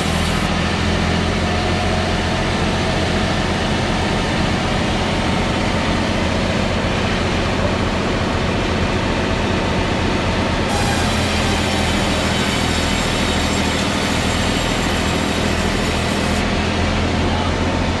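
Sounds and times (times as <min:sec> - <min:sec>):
heavy machine humming: 0:00.0 - 0:18.0.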